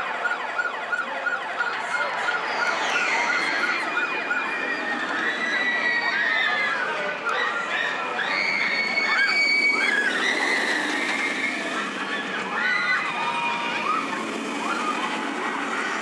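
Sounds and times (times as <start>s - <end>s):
roller coaster rushing on track: 0.0s - 16.0s
riders screaming: 2.2s - 16.0s.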